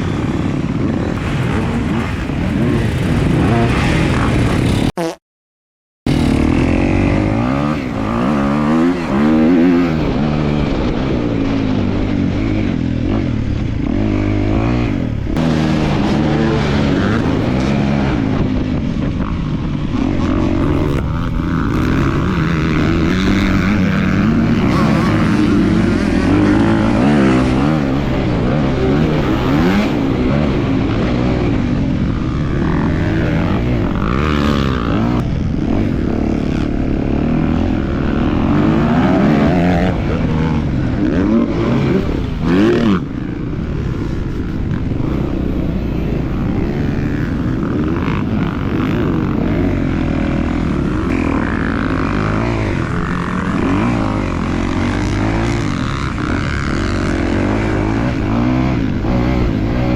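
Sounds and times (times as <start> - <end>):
motocross bike engine revving: 0.0 - 5.2, 6.1 - 59.9.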